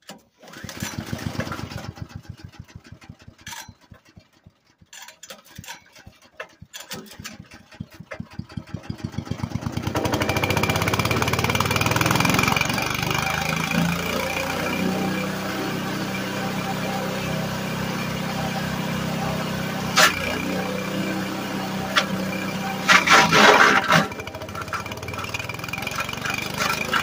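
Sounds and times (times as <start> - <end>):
small engine sputtering and running: 0.4 - 27.0.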